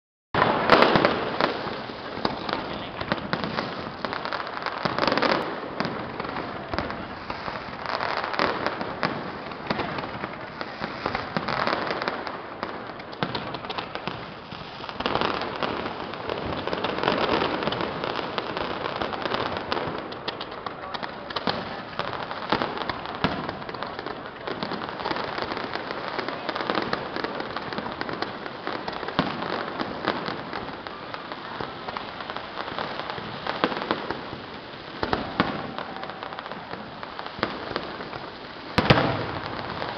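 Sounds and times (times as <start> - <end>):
fireworks bangs: 0.4 - 39.9
fireworks crackling: 0.4 - 39.9.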